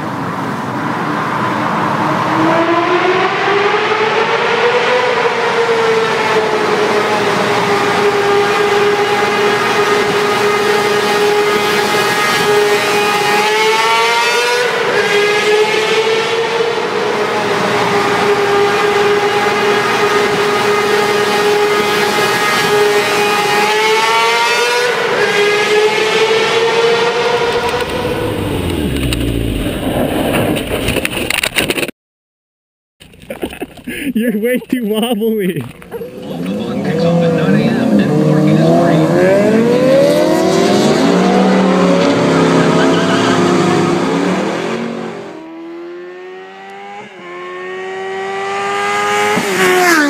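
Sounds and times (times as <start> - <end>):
motorbike engine screaming: 2.0 - 30.2, 35.9 - 50.0.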